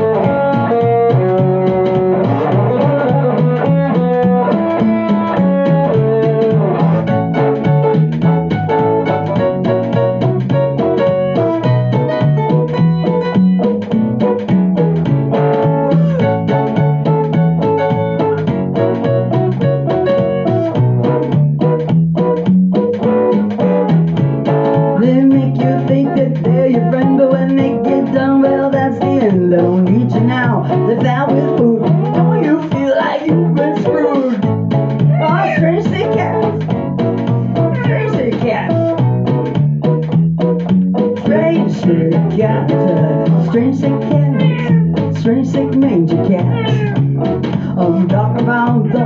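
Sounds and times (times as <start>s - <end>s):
electronic keyboard: 0.0s - 45.5s
acoustic-electric guitar: 0.0s - 49.0s
low bass line: 0.0s - 49.0s.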